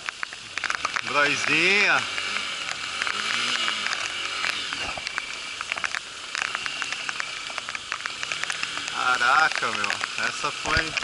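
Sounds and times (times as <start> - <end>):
rain ticking on camera housing: 0.0 - 11.0.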